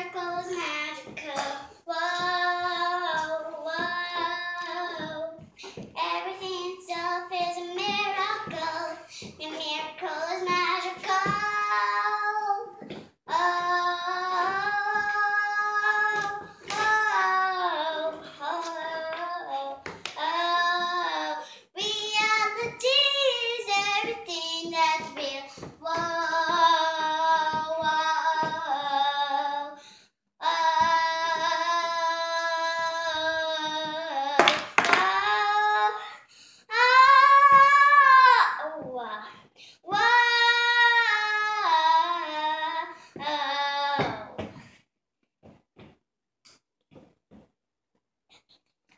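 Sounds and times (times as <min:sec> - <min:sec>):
girl singing: 0:00.0 - 0:44.7.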